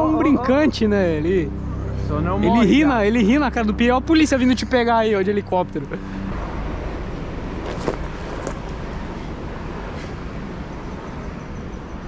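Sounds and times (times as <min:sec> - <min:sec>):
helicopter rumble: 0:00.0 - 0:12.0.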